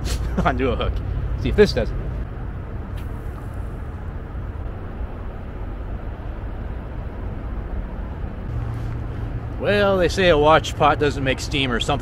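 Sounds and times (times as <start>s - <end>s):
distant freeway traffic: 0.0s - 12.0s.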